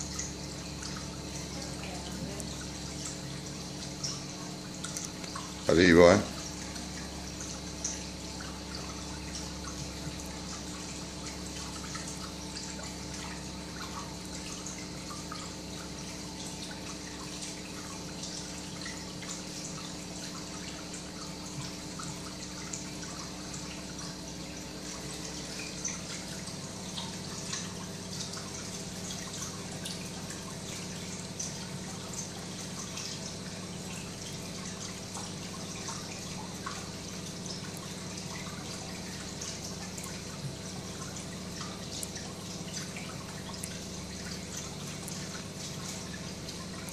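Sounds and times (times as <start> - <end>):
pump hum: 0.0 - 46.9
water trickling and dripping: 0.0 - 46.9.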